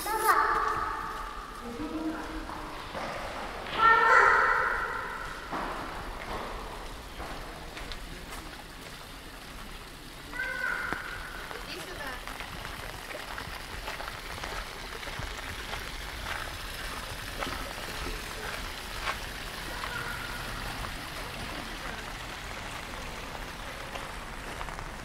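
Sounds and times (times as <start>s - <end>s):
steady rain falling: 0.0s - 25.0s
sharp drips and taps: 0.2s - 25.0s.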